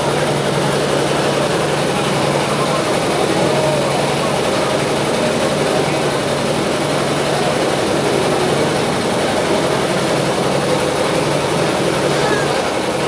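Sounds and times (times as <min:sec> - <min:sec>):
steady engine drone: 0:00.0 - 0:13.0.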